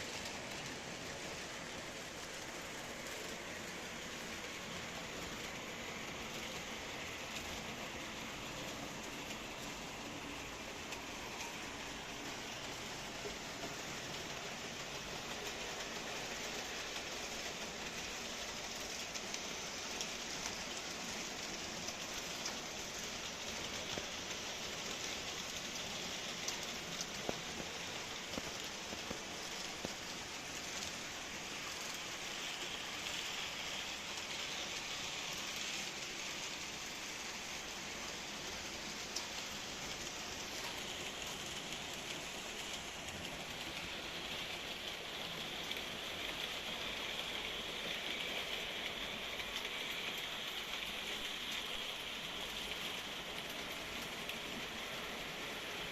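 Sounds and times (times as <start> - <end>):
model train rolling: 0.0 - 55.9.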